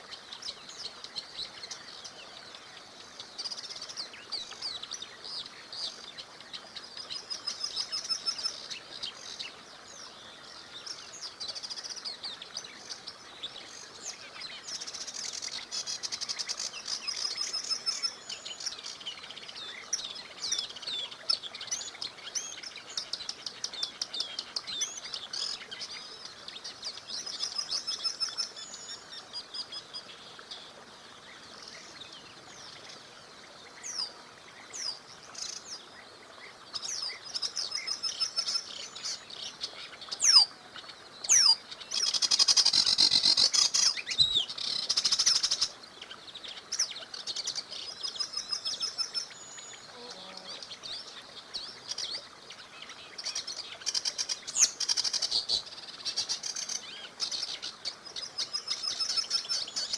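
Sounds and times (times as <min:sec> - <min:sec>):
faint river rushing: 0:00.0 - 0:59.9
songbirds singing: 0:00.0 - 0:59.9.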